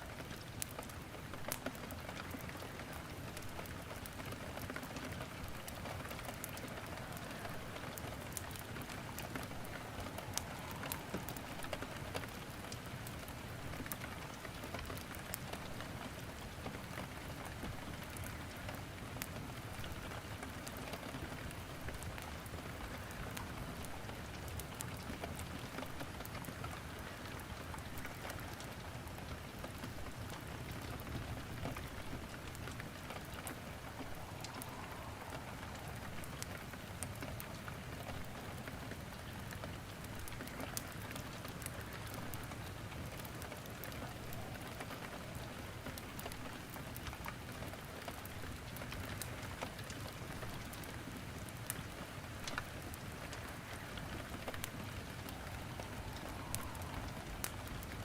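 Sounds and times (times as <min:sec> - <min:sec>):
firewood crackling: 0:00.0 - 0:58.0
steady rain hissing: 0:00.0 - 0:58.0.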